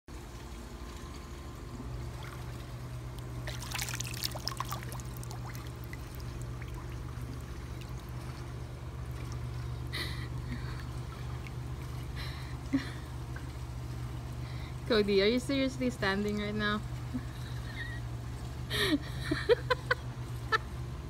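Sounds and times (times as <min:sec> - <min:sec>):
low hum: 0:00.1 - 0:21.0
pool water splashing: 0:00.1 - 0:21.0.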